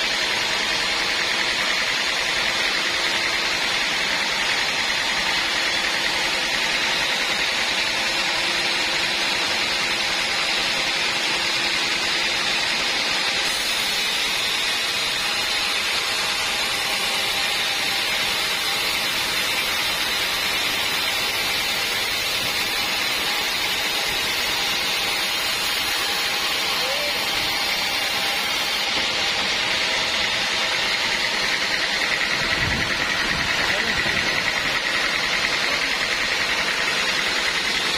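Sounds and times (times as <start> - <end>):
band saw running: 0.0 - 37.9.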